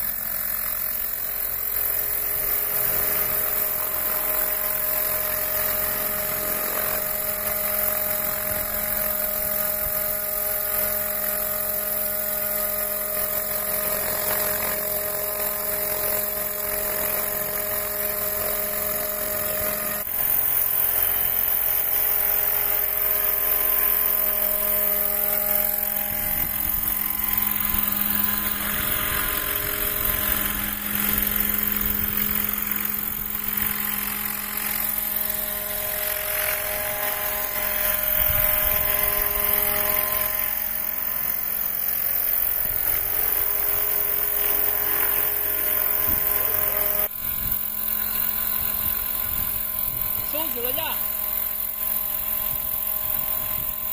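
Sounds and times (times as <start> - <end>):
helicopter rotor noise: 0.0 - 53.9
rc helicopter motor whine: 0.0 - 53.9.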